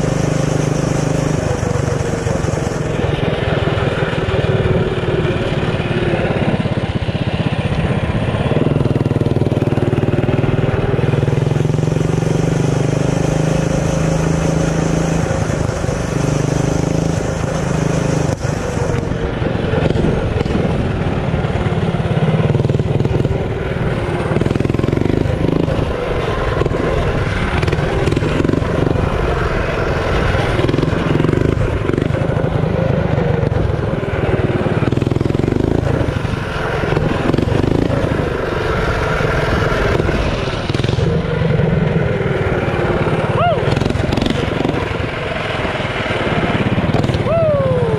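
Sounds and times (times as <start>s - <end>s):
mini bike engine revving: 0.0s - 47.9s.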